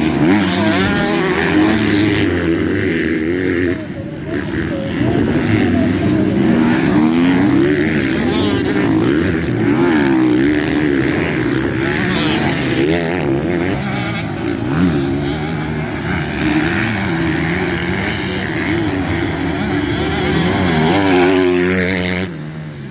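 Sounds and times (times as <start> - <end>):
motocross bike engines revving: 0.0 - 22.9.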